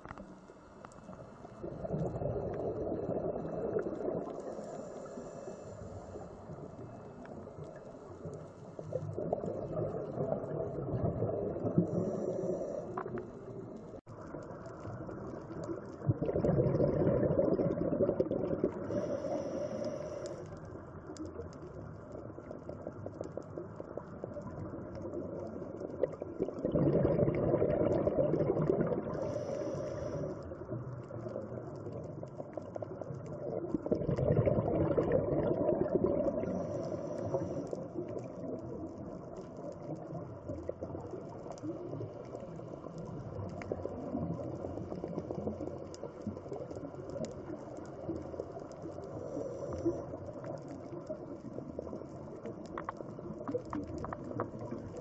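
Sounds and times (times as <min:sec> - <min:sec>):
crackling underwater hiss: 0:00.0 - 0:55.0
exhaled bubbles rumbling: 0:01.0 - 0:55.0.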